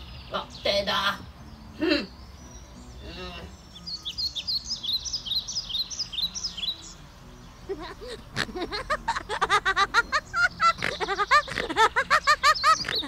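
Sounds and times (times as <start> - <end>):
small bird singing high chirps: 0.0 - 8.5, 9.1 - 13.0.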